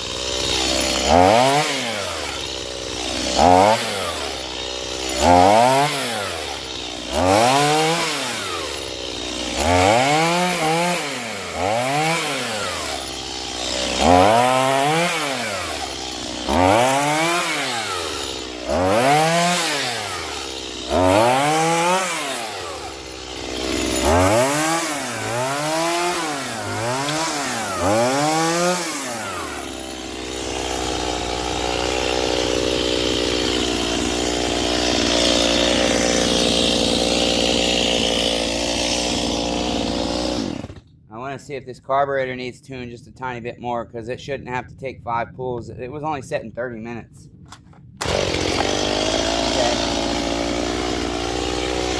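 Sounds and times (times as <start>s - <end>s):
chainsaw idling: 0.0s - 40.9s, 48.0s - 51.9s
chainsaw revving: 0.0s - 40.9s, 48.0s - 51.9s.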